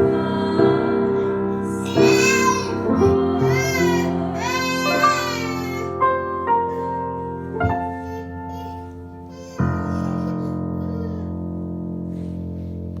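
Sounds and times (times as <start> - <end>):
slow piano notes and chord: 0.0 - 13.0.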